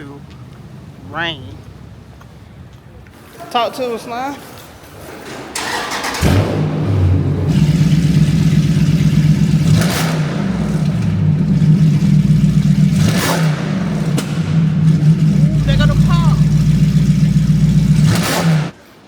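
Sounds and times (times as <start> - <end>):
vehicle engine droning: 0.0 - 3.4, 5.7 - 18.8.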